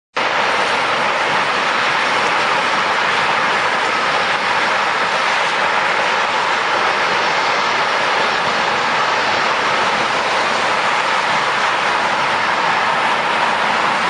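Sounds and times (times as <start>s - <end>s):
jet engines rushing hiss: 0.2s - 14.0s.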